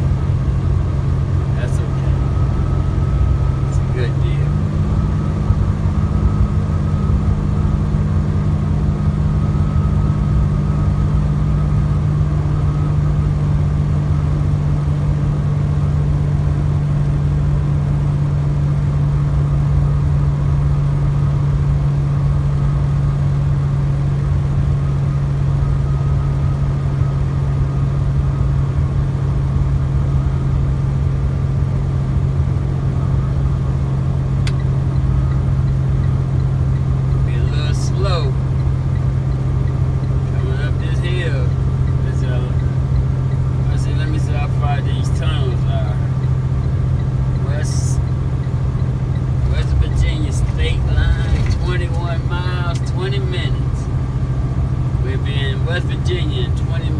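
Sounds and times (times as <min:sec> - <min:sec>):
truck engine and road hum: 0:00.0 - 0:56.9.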